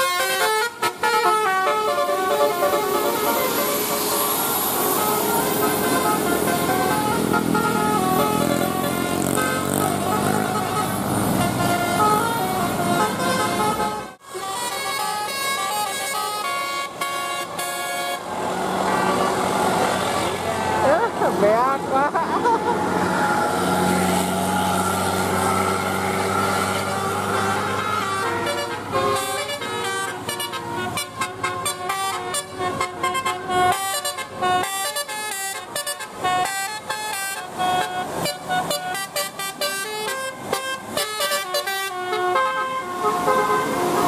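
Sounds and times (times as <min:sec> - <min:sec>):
bus engine: 0:00.0 - 0:44.0
multi-tone bus horn melody: 0:00.0 - 0:44.0.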